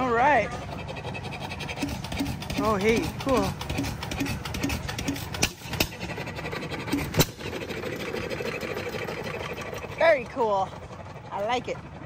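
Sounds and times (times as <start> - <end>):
engine clattering: 0.0 - 12.0.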